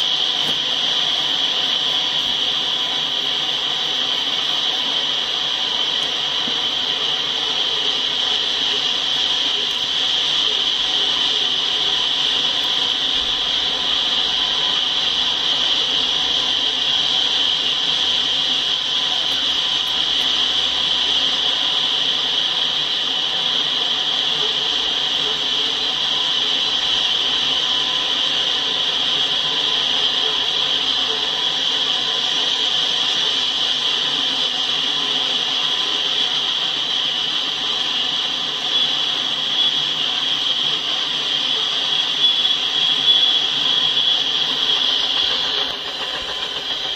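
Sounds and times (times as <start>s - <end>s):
train wheels hissing on rails: 0.0s - 46.9s.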